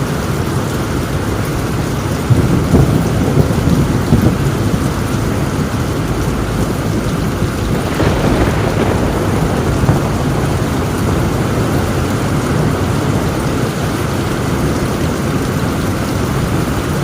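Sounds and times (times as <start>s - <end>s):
heavy rain on a tin roof: 0.0s - 17.0s
thunder rumbling and cracking: 0.0s - 17.0s.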